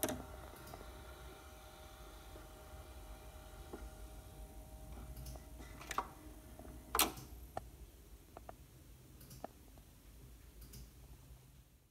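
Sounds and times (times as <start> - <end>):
faint low hum: 0.0 - 11.9.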